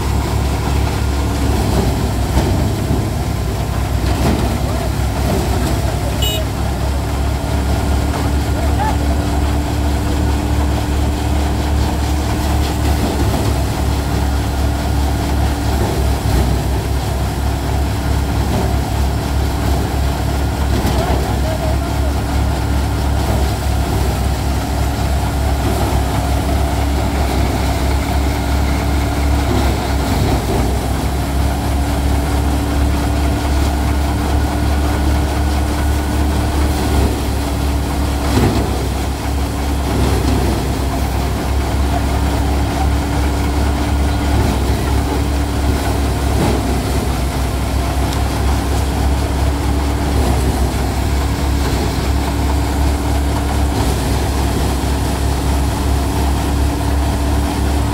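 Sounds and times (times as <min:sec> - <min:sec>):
tractor engine droning: 0:00.0 - 0:57.9.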